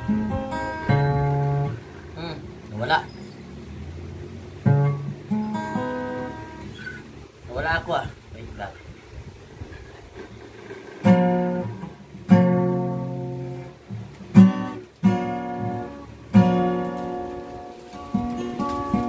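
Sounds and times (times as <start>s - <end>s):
acoustic guitar strumming: 0.0s - 7.3s, 10.1s - 19.0s.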